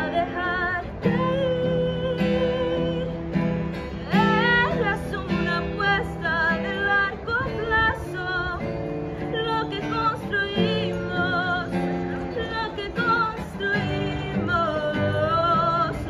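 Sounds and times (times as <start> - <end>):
acoustic guitar: 0.0 - 16.0
woman singing with vibrato: 0.0 - 16.0.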